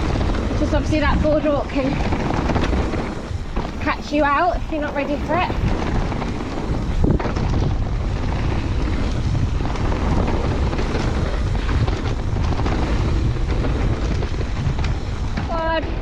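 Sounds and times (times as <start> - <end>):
bike knocks and rattles: 0.0 - 15.8
bike tyre rumble: 0.0 - 16.0
wind buffeting microphone: 0.0 - 16.0.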